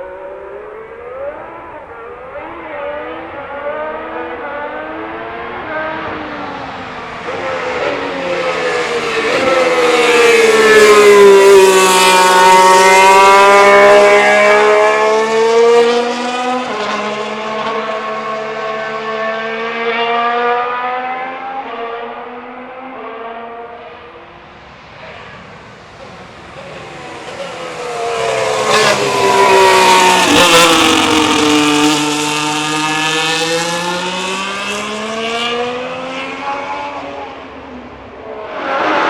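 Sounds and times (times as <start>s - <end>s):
racing car passing at speed: 0.0s - 39.0s.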